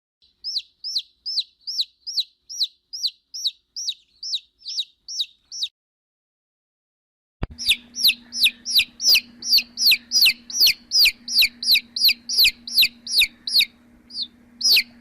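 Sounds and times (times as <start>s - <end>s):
chick peeping: 0.2s - 5.7s, 7.4s - 15.0s.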